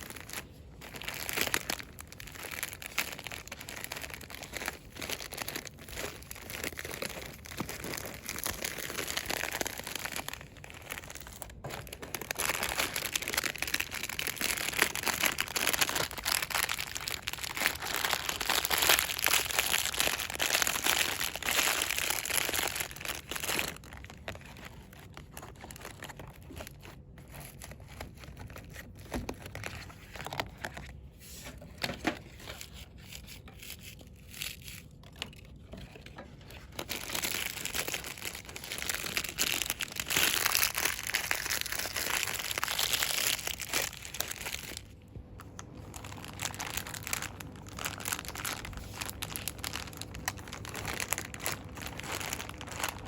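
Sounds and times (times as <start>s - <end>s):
packaging crinkling and rustling: 0.0s - 53.0s.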